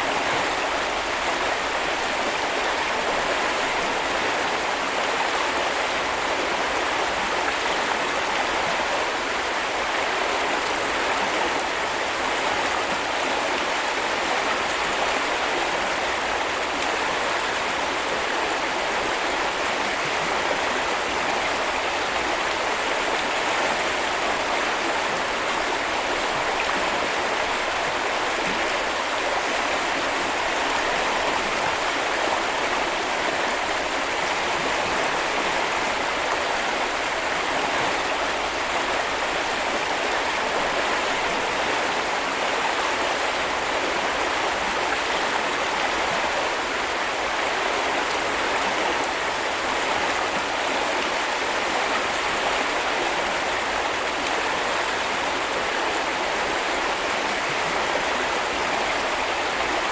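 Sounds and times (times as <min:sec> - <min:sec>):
small river running: 0:00.0 - 0:59.9.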